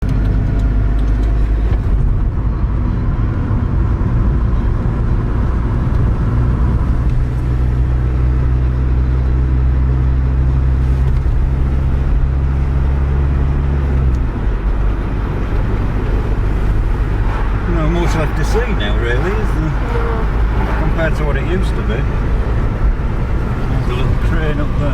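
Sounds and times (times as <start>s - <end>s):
road noise: 0.0s - 24.9s
vehicle engine drone: 0.0s - 24.9s.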